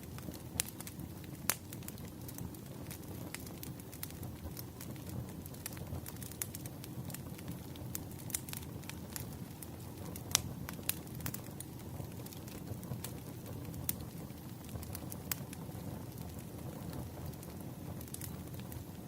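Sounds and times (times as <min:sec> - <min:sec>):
firewood popping: 0:00.0 - 0:19.0
low rumble of fire: 0:00.0 - 0:19.0
wood fire crackling: 0:00.0 - 0:19.0.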